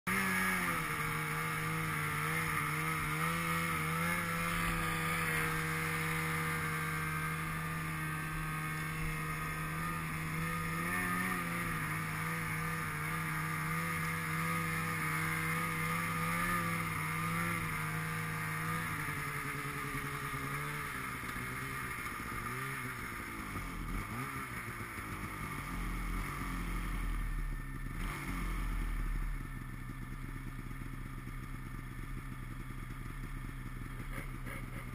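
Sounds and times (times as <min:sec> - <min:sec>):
snowmobile engine running: 0:00.1 - 0:34.9.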